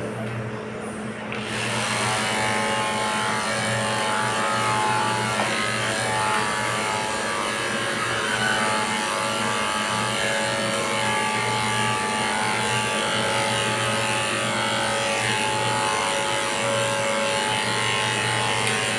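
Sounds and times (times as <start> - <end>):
electric pet clippers buzzing: 1.3 - 18.9.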